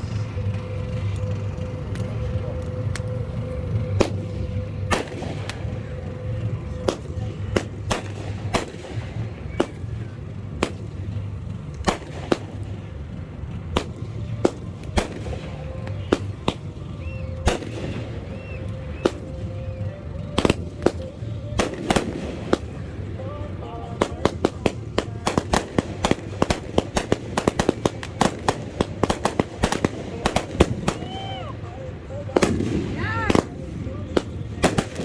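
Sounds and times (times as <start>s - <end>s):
fireworks banging: 0.0s - 35.0s
low rumble: 0.0s - 35.0s.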